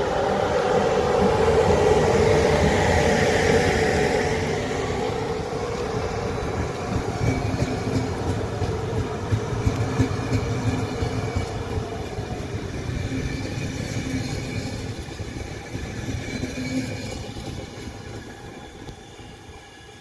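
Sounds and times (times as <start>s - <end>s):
electric locomotive passing: 0.0s - 20.0s
train wheels on rails: 0.0s - 20.0s.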